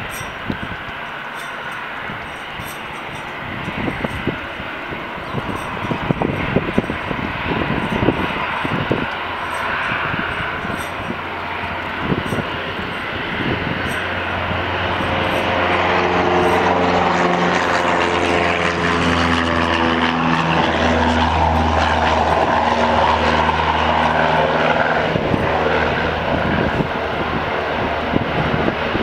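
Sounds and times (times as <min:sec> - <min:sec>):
jet engine whine: 0:00.0 - 0:29.0
jet engines hum and rush: 0:00.0 - 0:29.0.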